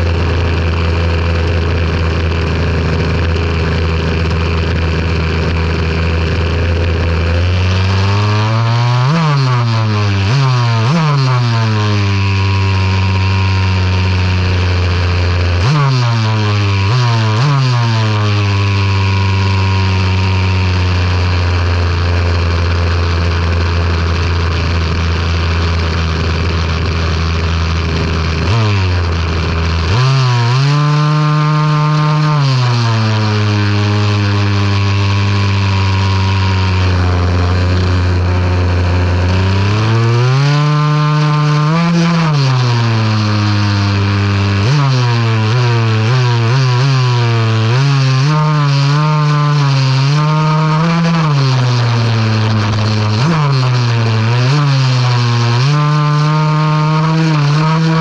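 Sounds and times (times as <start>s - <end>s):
toy car motor running: 0.0s - 58.0s.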